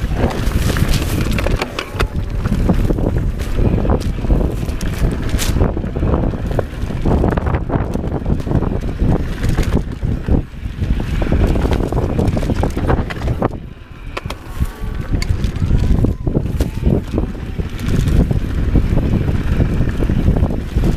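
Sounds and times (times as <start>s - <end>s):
bike rattles and clicks: 0.0s - 20.9s
tyres rolling on dirt: 0.0s - 20.9s
wind buffeting microphone: 0.0s - 20.9s.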